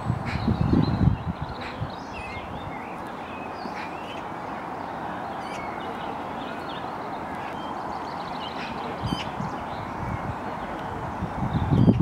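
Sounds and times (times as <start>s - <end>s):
steady background noise: 0.0s - 12.0s
bird chirps and twitters: 0.1s - 4.2s, 5.3s - 10.8s, 11.5s - 12.0s.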